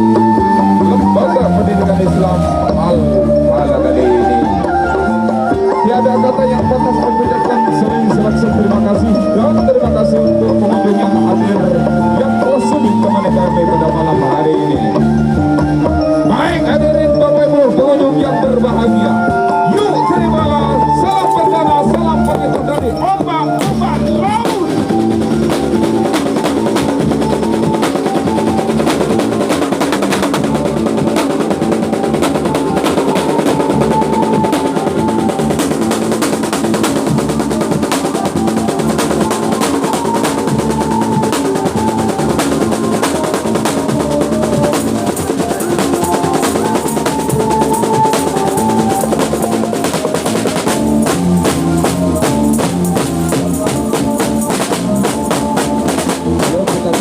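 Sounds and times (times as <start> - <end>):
live band playing: 0.0 - 57.0
rapid drumming with snare rolls: 0.0 - 57.0.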